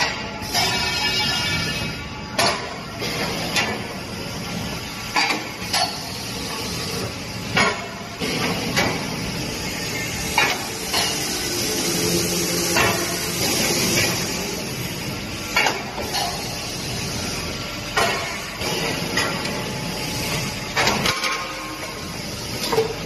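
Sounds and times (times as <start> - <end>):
steady machine noise: 0.0 - 23.0.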